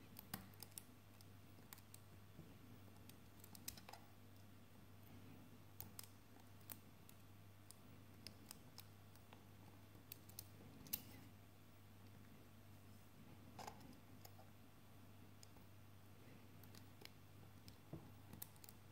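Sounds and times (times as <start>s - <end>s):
faint low hum: 0.0s - 18.9s.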